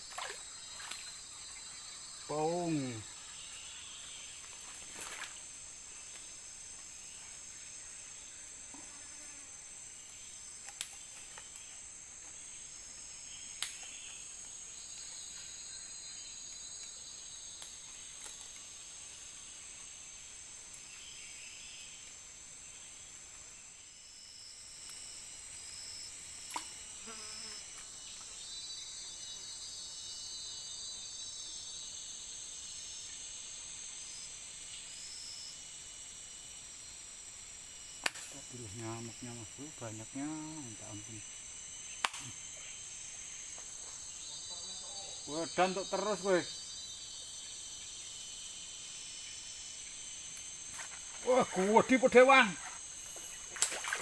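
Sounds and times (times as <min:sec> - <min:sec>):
insect chorus trilling: 0:00.0 - 0:54.0.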